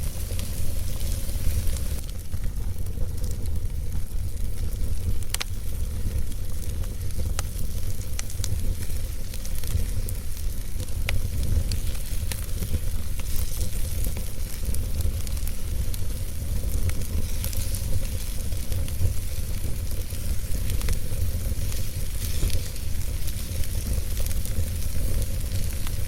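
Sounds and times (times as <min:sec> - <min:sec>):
fire low rumble: 0:00.0 - 0:26.0
logs crackling and popping: 0:00.0 - 0:26.0.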